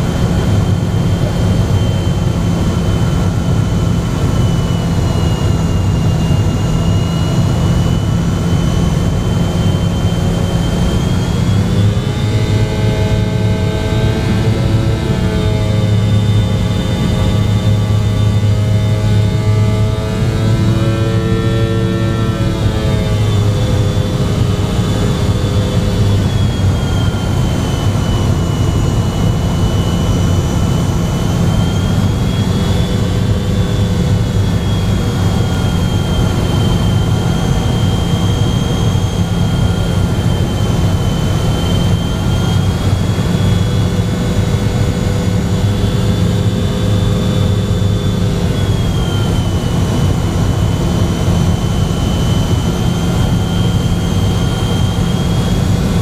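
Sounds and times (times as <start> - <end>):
jet engines humming from cabin: 0.0 - 56.0.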